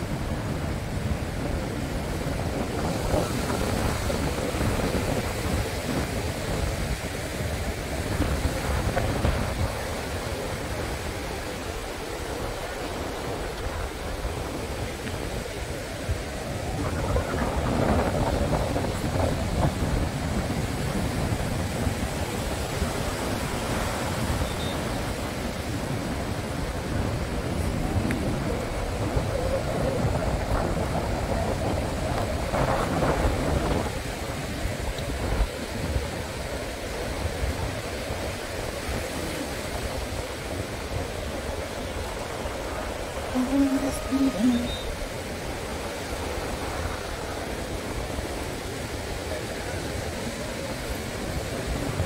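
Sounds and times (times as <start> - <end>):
sea surf: 0.0 - 52.0
wind gusting on microphone: 0.0 - 52.0.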